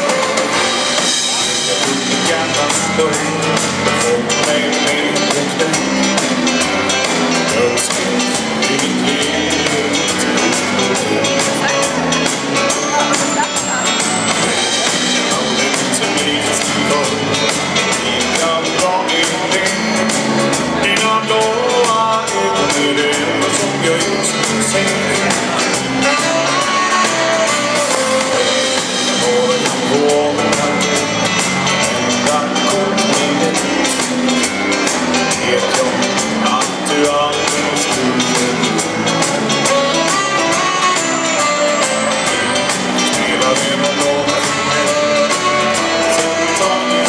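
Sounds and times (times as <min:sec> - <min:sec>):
guitar: 0:00.0 - 0:47.0
live band playing: 0:00.0 - 0:47.0
steady drum beat: 0:00.0 - 0:47.0.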